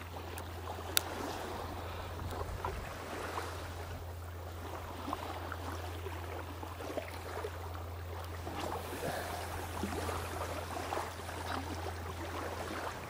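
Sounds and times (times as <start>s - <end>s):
steady low drone: 0.0s - 13.0s.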